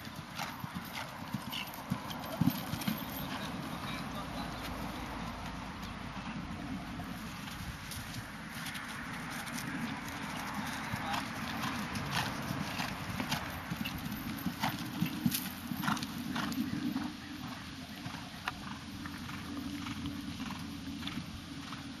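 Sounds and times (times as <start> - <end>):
hoofbeats on sand: 0.0 - 6.4, 7.0 - 21.8.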